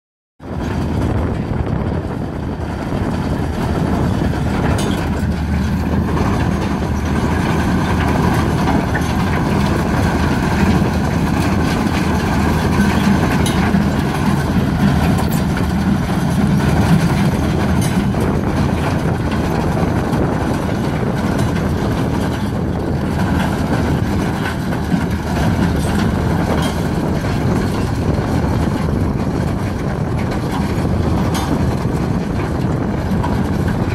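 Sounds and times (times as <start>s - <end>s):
implement grinding through stony ground: 0.4s - 33.9s
tractor engine under load: 0.4s - 33.9s.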